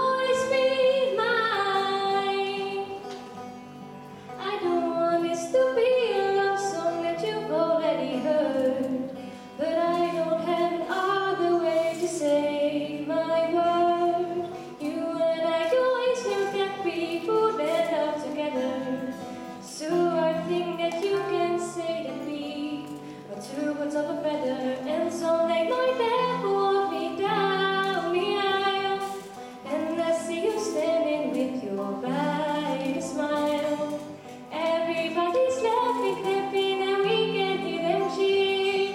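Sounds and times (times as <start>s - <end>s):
young woman singing pop song: 0.0s - 3.2s, 4.4s - 38.9s
instrumental accompaniment: 0.0s - 38.9s.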